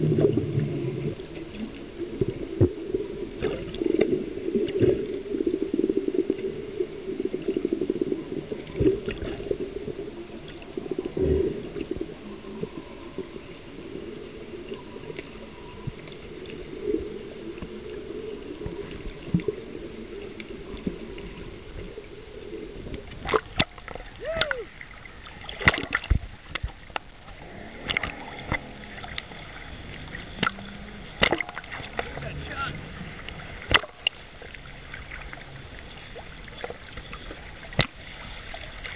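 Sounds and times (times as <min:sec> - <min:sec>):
muffled underwater rush: 0:00.0 - 0:38.9
water splashing and sloshing: 0:00.0 - 0:38.9.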